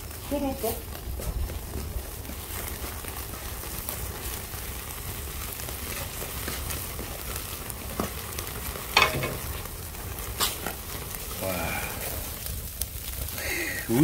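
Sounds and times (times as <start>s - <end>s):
fat sizzling: 0.0s - 14.0s
fire pop: 0.0s - 14.0s
straw fire crackling and hissing: 0.0s - 14.0s.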